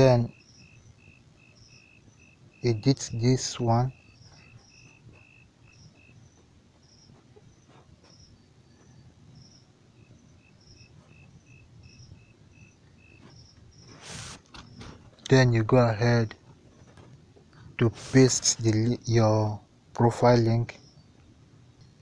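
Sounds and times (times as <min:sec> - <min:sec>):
crickets chirping: 0:00.0 - 0:19.9, 0:20.5 - 0:22.0
low background hiss: 0:00.0 - 0:22.0.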